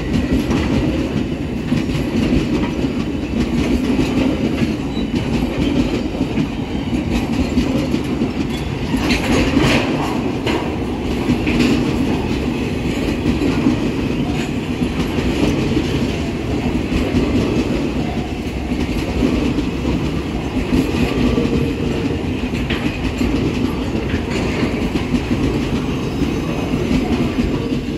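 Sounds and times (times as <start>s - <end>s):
low train rumble: 0.0s - 27.9s
train wheels clacking on rail joints: 0.0s - 27.9s.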